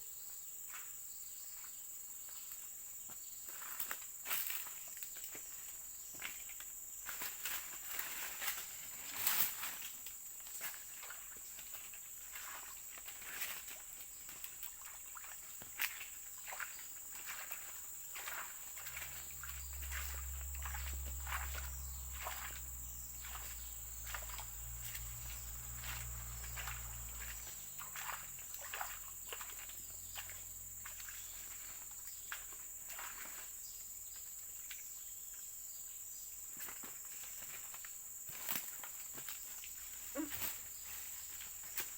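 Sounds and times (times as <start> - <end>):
insects buzzing: 0.0 - 41.9
rustles in undergrowth: 1.5 - 41.9.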